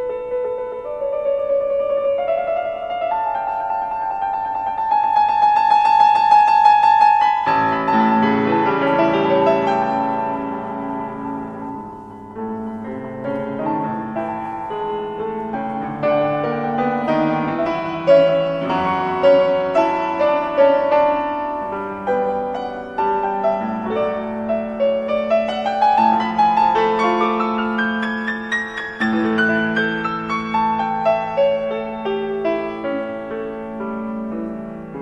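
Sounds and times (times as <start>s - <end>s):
grand piano playing classical music: 0.0s - 35.0s.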